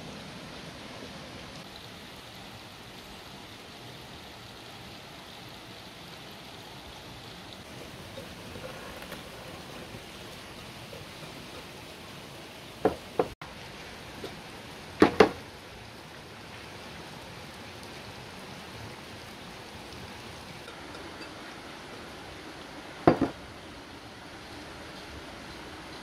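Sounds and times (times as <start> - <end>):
steady low hiss: 0.0 - 26.0.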